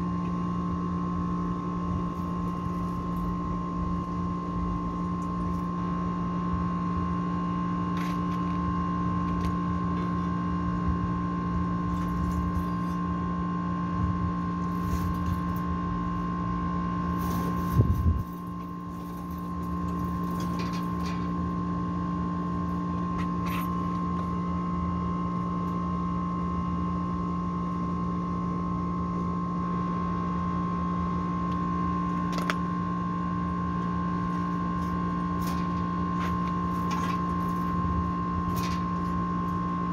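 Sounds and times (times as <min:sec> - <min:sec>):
electric machine hum: 0:00.0 - 0:39.9.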